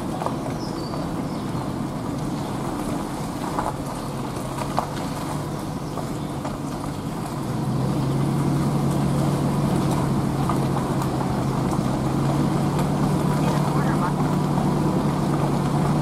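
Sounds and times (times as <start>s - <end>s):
truck engine hum: 0.0s - 16.0s
tyre and road noise: 0.0s - 16.0s.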